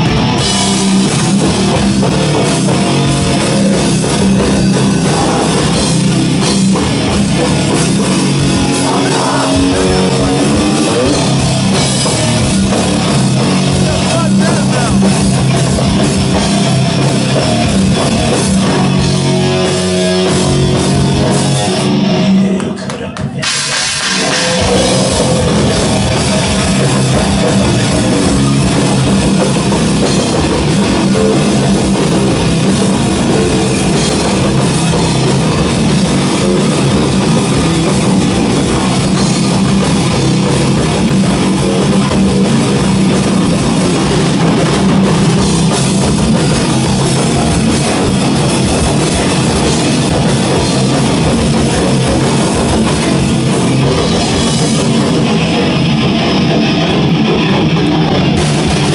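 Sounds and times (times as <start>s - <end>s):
extreme metal band playing: 0.0s - 58.9s.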